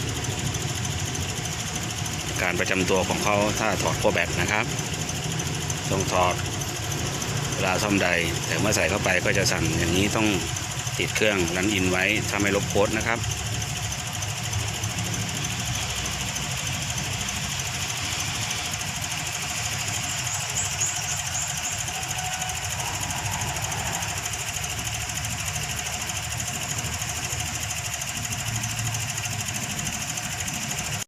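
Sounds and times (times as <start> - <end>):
car engine idling roughly: 0.0 - 31.0.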